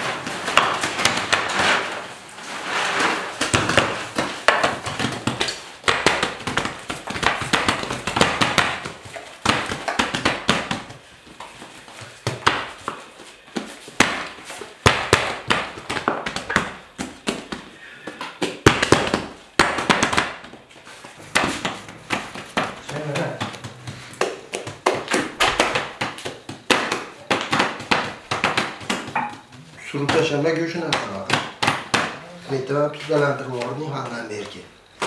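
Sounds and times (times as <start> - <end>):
knocks and taps of bread-making: 3.4 - 32.2.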